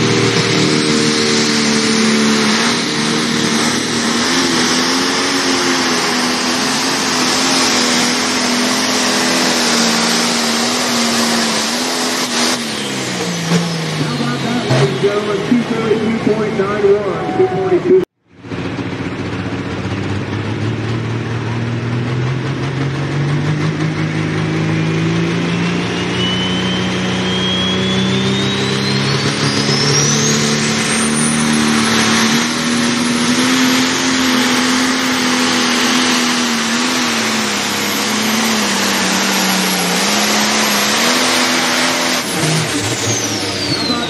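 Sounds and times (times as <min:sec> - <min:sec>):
diesel engine at full throttle: 0:00.0 - 0:44.0
high turbocharger whine: 0:00.0 - 0:44.0.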